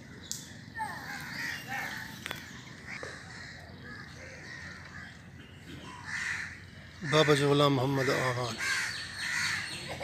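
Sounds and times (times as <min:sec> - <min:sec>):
harsh bird calls: 0:00.0 - 0:10.0.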